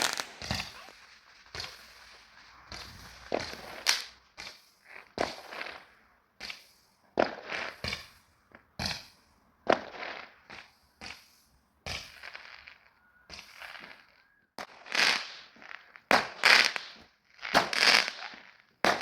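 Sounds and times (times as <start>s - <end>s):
fireworks bangs and pops: 0.0s - 19.0s.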